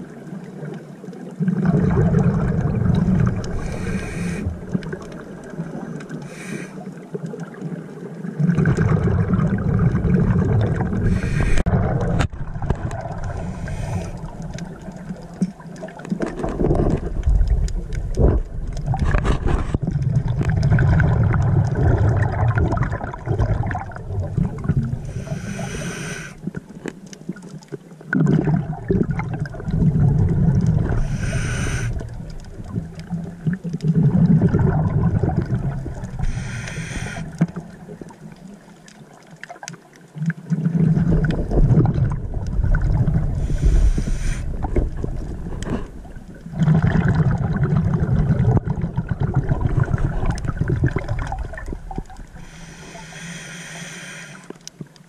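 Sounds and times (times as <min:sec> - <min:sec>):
underwater exhaled bubbles: 0:00.0 - 0:55.0.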